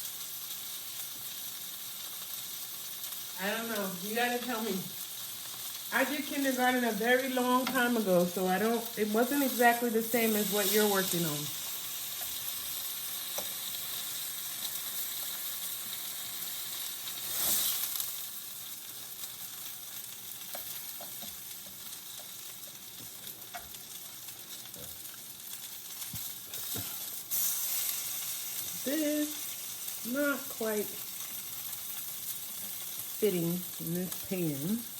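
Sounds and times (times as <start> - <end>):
food sizzling in a frying pan: 0.0 - 34.9.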